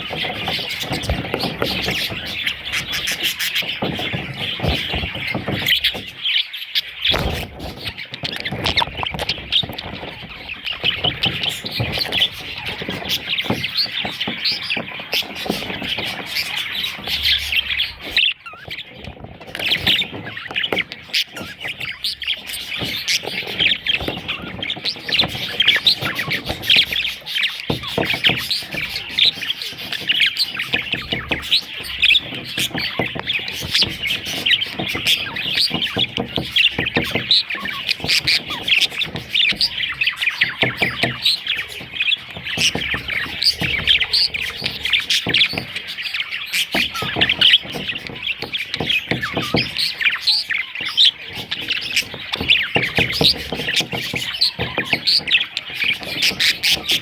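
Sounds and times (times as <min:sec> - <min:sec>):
budgerigars chirping and squawking: 0:00.0 - 0:57.0.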